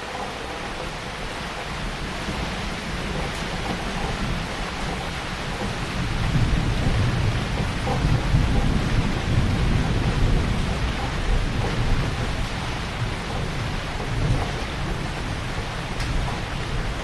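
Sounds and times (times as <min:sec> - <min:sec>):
heavy rain falling: 0:00.0 - 0:17.0
low rumble of thunder: 0:00.2 - 0:17.0.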